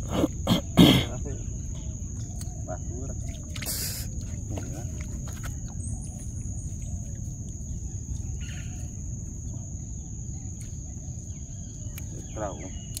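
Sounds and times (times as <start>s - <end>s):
insect trilling: 0.0s - 13.0s.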